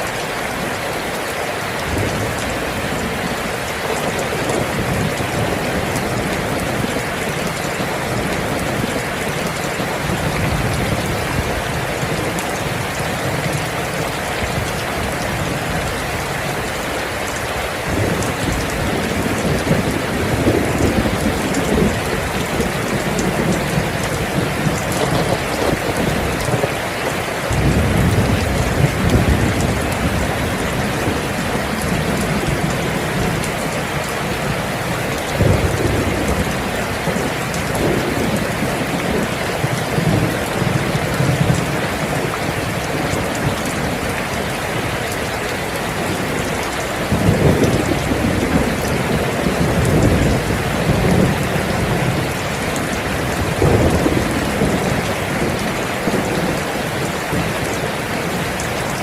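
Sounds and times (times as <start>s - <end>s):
heavy rain falling: 0.0s - 59.0s
thunder rumbling: 1.8s - 45.2s, 45.8s - 59.0s.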